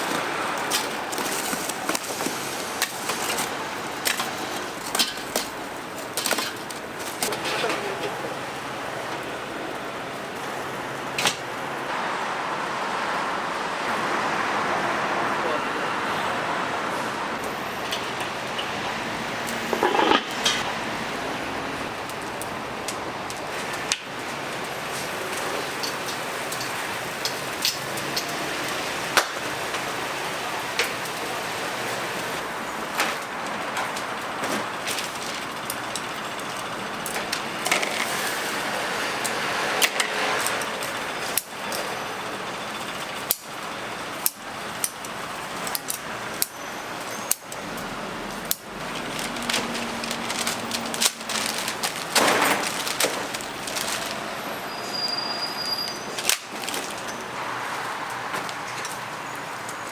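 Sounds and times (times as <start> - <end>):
cooking hiss: 0.0 - 14.7, 16.9 - 59.8.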